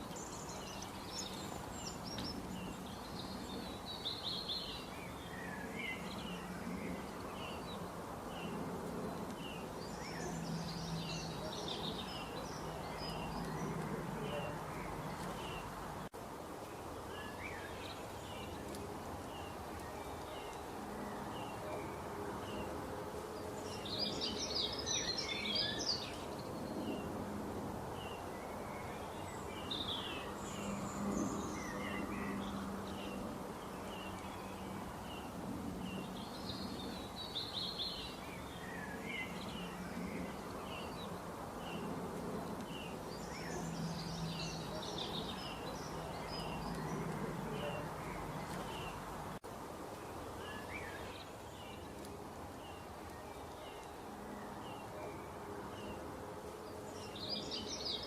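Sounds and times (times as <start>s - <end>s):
small birds chirping: 0.0s - 27.2s, 27.9s - 58.0s
background noise: 0.0s - 58.0s.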